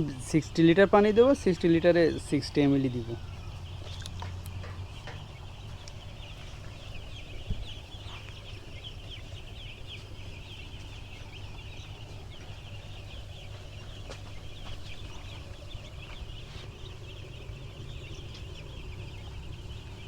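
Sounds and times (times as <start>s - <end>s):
chicks peeping: 0.0s - 20.0s
low steady hum: 0.0s - 20.0s.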